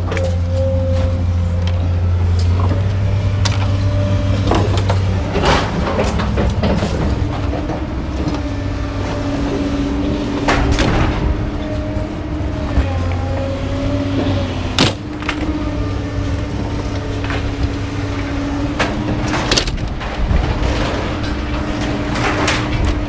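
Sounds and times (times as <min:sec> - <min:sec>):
truck engine and road rumble: 0:00.0 - 0:23.0
knocks and rattles: 0:02.4 - 0:23.0.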